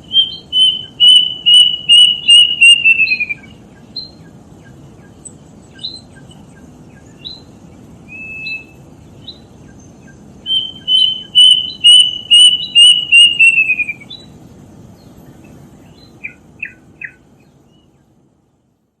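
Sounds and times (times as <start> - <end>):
cuckoo whistled calls: 0.0 - 14.4, 15.3 - 18.0.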